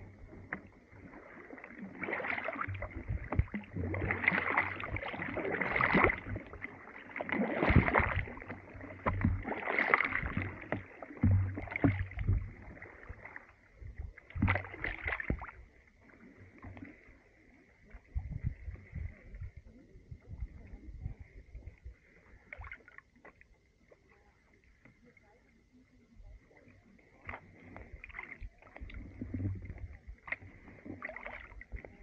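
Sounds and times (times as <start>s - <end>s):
paddles splashing through slush: 0.0s - 32.0s.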